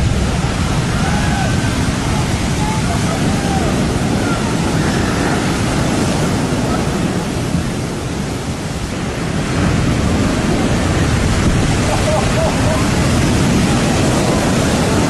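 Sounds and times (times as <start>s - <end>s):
heavy ocean surf breaking: 0.0s - 15.0s.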